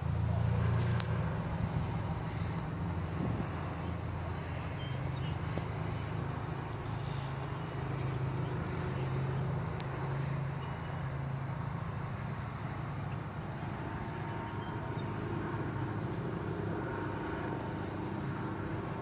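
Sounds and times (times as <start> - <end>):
distant jet aircraft rumble: 0.0 - 19.0.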